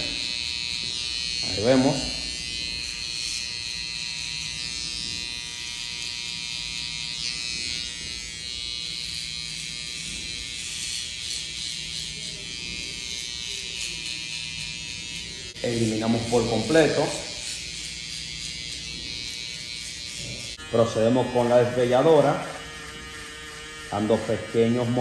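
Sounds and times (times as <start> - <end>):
electric hair trimmer buzzing: 0.0 - 25.0.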